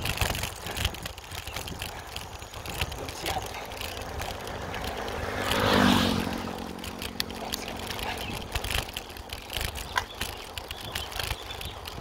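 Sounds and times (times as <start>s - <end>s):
bicycle tyre rumble on dirt: 0.0s - 12.0s
wind over microphone: 0.0s - 12.0s.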